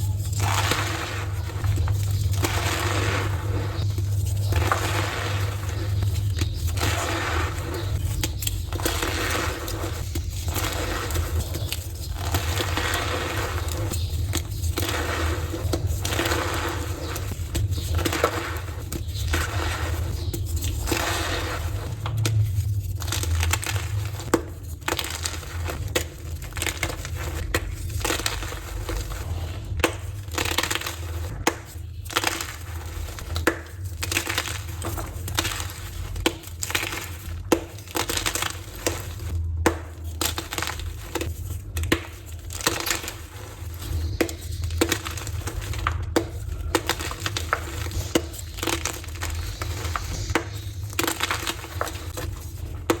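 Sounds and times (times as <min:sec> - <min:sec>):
chalk crunching by hand: 0:00.0 - 0:53.0.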